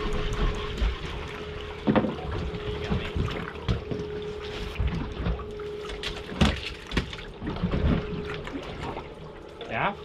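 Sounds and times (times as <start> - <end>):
water slapping against boat hull: 0.0 - 9.3.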